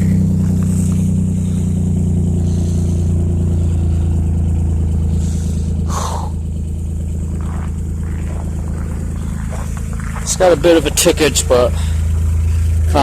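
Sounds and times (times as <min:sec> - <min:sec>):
car engine idling with tick: 0:00.0 - 0:13.0.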